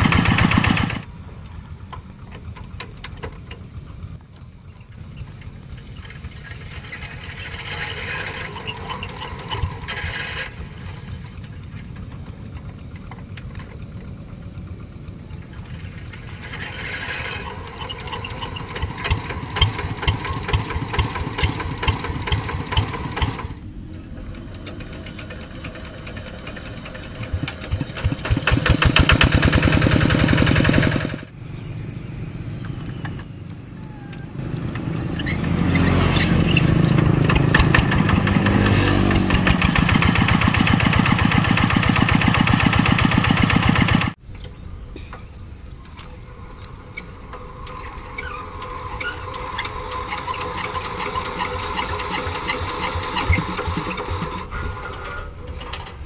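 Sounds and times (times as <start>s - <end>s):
diesel engine hand-cranked: 0.0s - 1.1s, 1.9s - 31.3s, 34.3s - 44.2s, 45.9s - 56.0s
diesel engine running: 0.0s - 44.2s, 46.0s - 56.0s.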